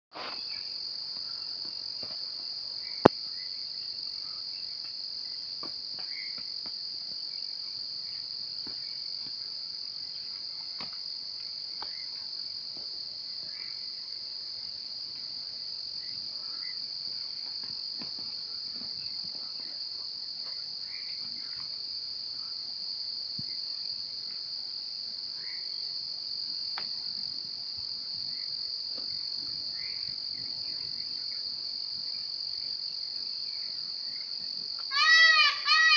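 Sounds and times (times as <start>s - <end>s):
high-pitched insect chorus: 0.2s - 35.9s.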